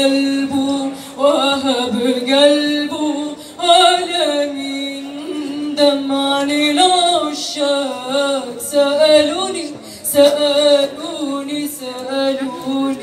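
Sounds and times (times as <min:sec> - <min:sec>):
woman singing into a microphone: 0:00.0 - 0:13.0.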